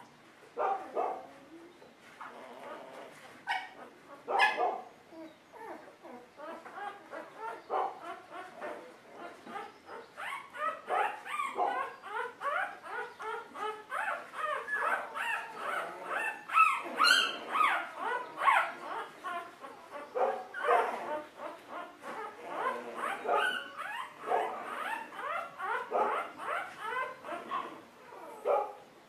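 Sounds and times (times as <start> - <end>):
puppies squeaking and whining: 1.2 - 4.3, 5.1 - 28.5.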